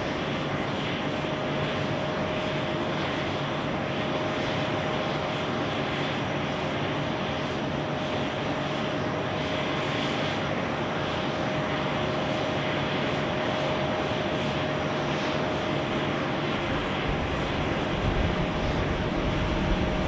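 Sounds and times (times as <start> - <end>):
jet engines rushing and whining: 0.0 - 20.0.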